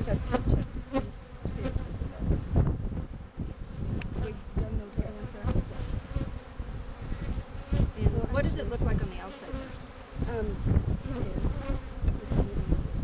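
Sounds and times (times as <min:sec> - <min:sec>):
bee flying past: 0:00.0 - 0:13.0
honey bees buzzing: 0:00.0 - 0:13.0.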